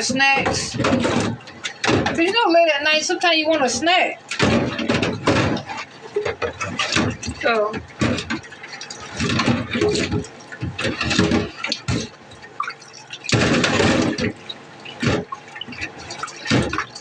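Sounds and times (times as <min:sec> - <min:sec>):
water running in a sink: 0:00.0 - 0:17.0.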